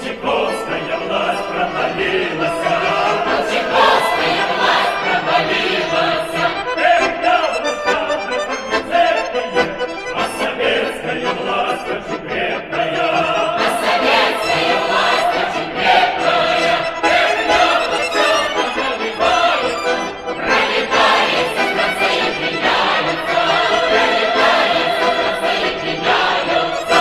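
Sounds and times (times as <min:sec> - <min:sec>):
accordion playing folk tune: 0:00.0 - 0:27.0.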